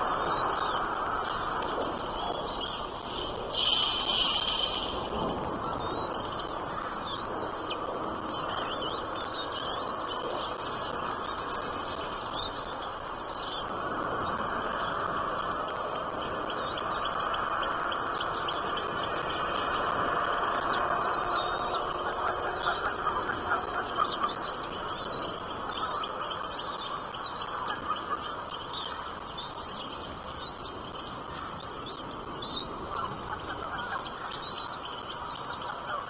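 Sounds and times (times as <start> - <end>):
small birds chirping: 0.0 - 36.0
steady background hiss: 0.0 - 36.0.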